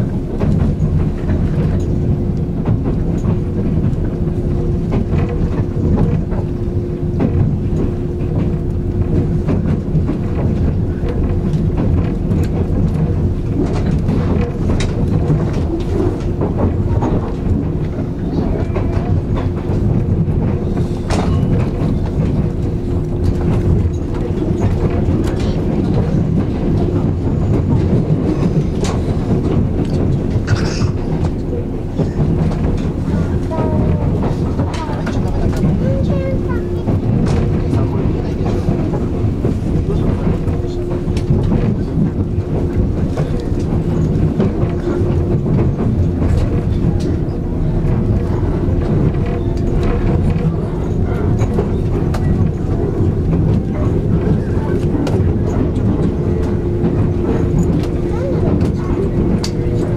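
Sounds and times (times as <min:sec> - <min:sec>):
clickety-clack of rail joints: 0:00.0 - 0:59.9
constant hum: 0:00.0 - 0:59.9
train wheels rumbling on rails: 0:00.0 - 0:59.9.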